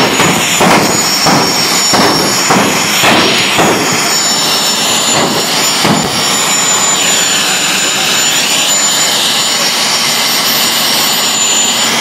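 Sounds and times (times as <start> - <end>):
racing car engines surging: 0.0 - 12.0
steady high whine: 0.0 - 12.0.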